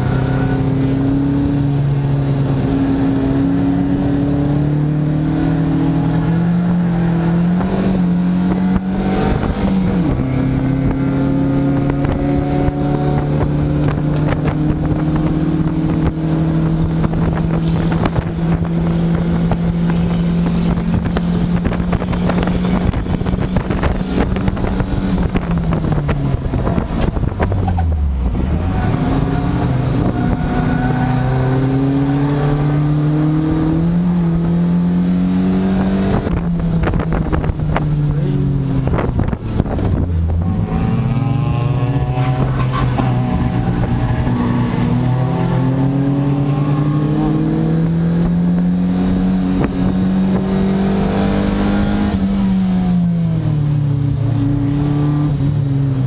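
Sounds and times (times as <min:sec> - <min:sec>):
gear change: 0:00.0 - 0:53.0
race car engine accelerating: 0:00.0 - 0:56.0.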